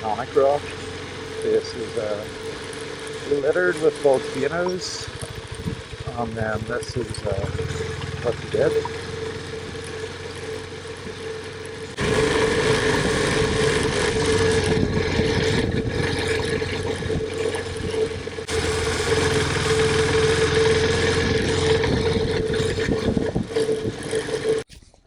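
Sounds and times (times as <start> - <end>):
motorcycle engine running: 0.0 - 24.7
wind and riding noise: 0.0 - 24.8.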